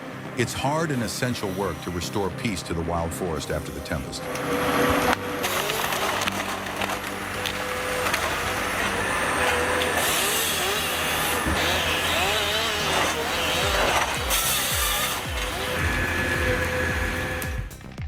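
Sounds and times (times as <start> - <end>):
harvester engine and hydraulics: 0.0 - 18.0.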